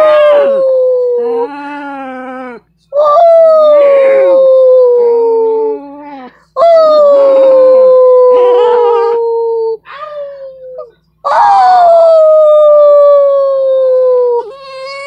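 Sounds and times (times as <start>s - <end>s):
dog howling: 0.0s - 6.0s, 6.6s - 9.8s, 10.5s - 15.0s.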